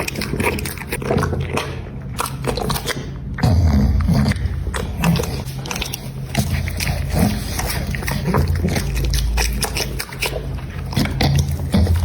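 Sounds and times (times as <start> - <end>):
dog chewing food: 0.0 - 12.0.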